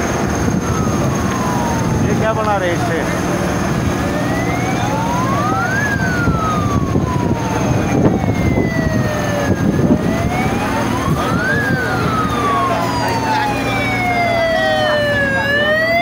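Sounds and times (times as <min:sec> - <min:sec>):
heavy vehicle engine running: 0:00.0 - 0:16.0
siren wailing: 0:00.0 - 0:16.0.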